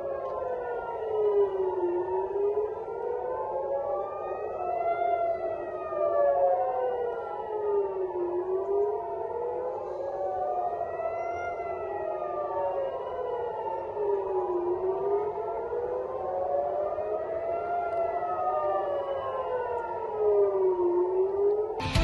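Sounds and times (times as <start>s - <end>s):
air raid sirens wailing: 0.0s - 22.0s.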